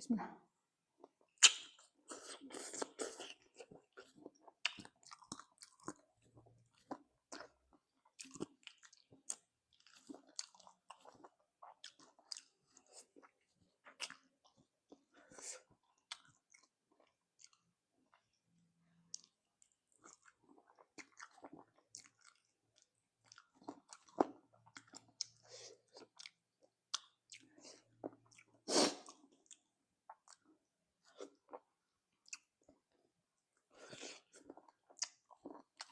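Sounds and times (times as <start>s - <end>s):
person chewing and sucking: 1.3s - 18.3s, 19.1s - 32.8s, 33.8s - 35.9s.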